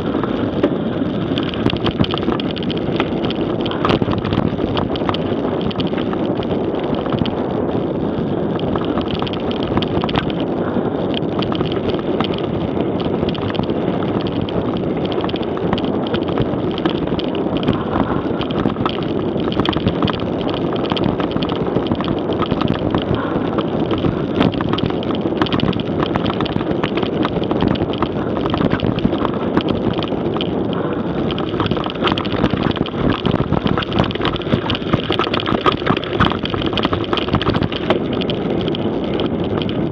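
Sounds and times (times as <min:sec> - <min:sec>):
bike rattling: 0:00.0 - 0:39.9
tyres rumbling on dirt and stones: 0:00.0 - 0:39.9
wind noise on microphone: 0:00.0 - 0:39.9.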